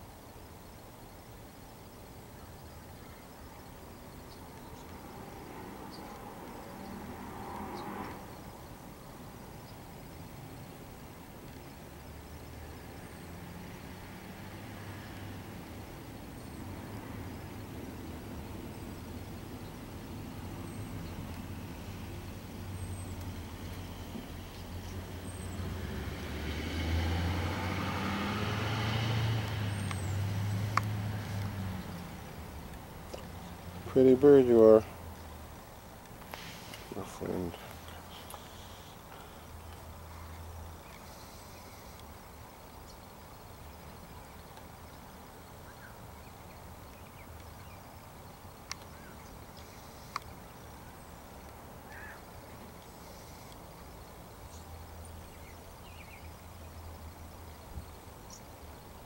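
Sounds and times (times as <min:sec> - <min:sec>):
vehicle engine rumble passing: 0:03.4 - 0:59.0.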